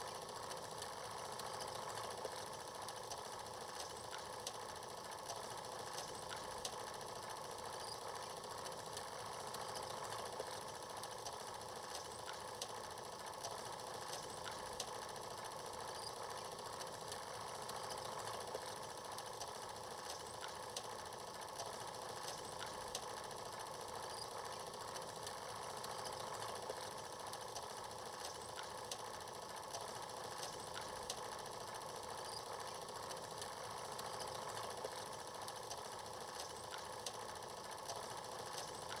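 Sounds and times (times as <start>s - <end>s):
film projector whirring and clattering: 0.0s - 39.0s.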